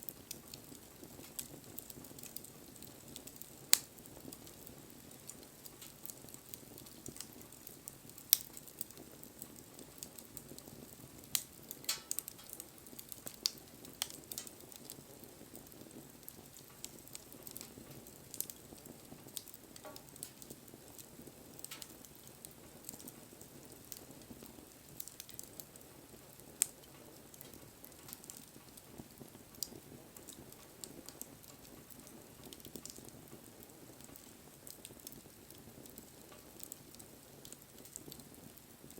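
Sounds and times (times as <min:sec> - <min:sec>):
low hiss of burning: 0:00.0 - 0:38.9
wood bonfire crackling: 0:00.0 - 0:38.9.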